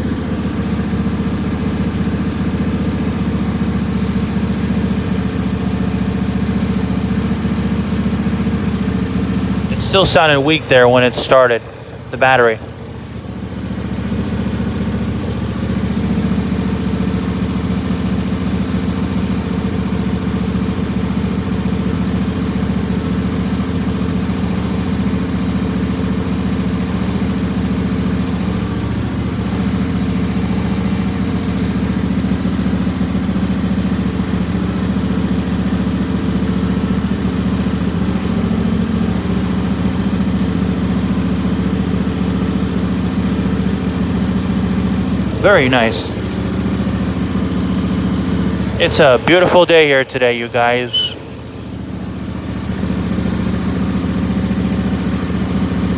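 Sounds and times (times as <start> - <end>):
small gasoline engine running: 0.0 - 9.7, 12.8 - 45.4, 51.6 - 55.9.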